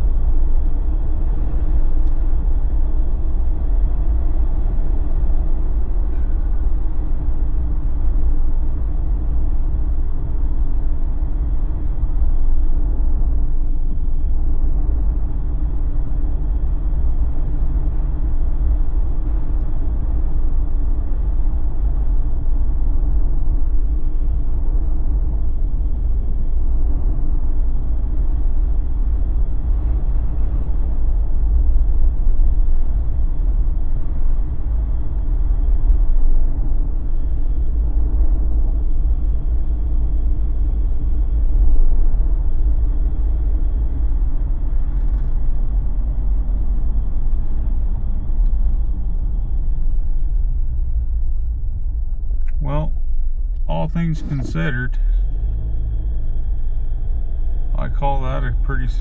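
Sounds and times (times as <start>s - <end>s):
vehicle road rumble: 0.0s - 59.0s.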